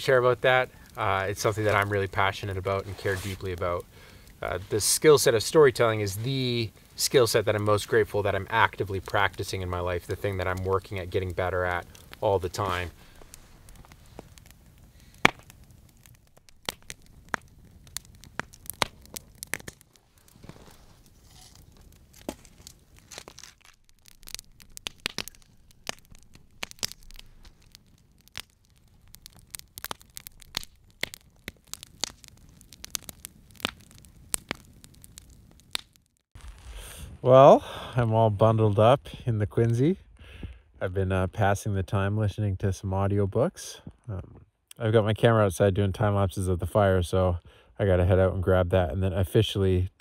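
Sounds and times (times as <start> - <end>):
sharp fire pops: 0.0 - 40.6
campfire crackling: 0.0 - 50.0.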